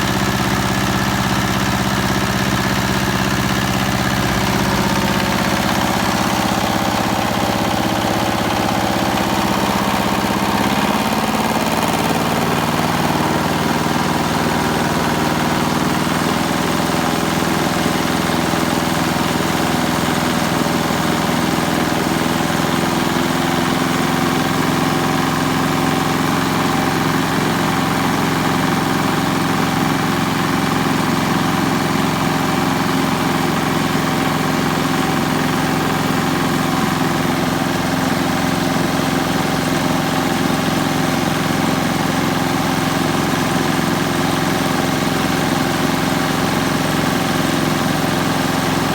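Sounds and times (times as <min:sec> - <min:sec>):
diesel generator engine running: 0:00.0 - 0:48.9.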